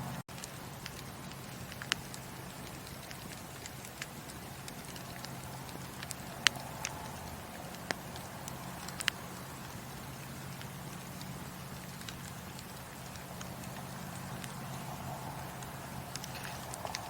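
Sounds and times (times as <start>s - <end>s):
steady low hum: 0.0s - 17.0s
wood fire crackling and popping: 0.0s - 17.0s.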